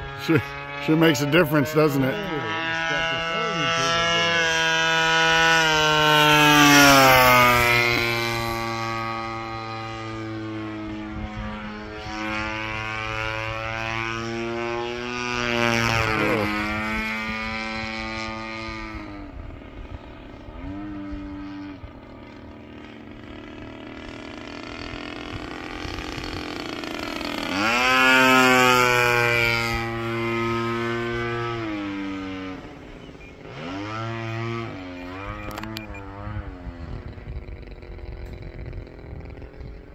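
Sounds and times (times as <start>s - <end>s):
model airplane engine: 0.0s - 39.9s.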